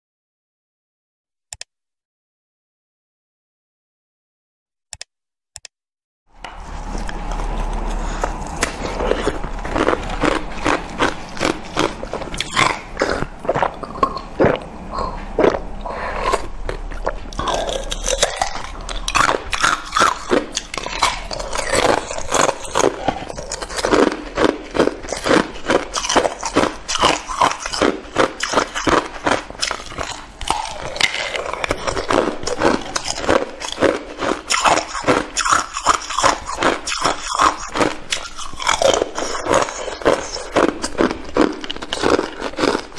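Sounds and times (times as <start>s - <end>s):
ice crunching between teeth: 6.6s - 42.9s.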